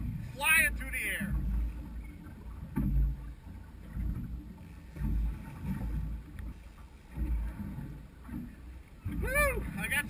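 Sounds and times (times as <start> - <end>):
water moving around a boat: 0.0 - 10.0.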